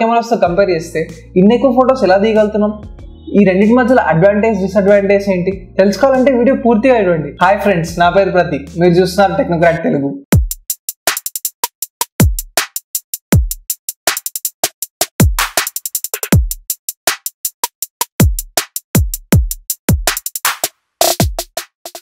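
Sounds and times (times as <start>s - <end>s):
electronic drum machine beat: 0.4s - 6.4s, 7.8s - 22.0s.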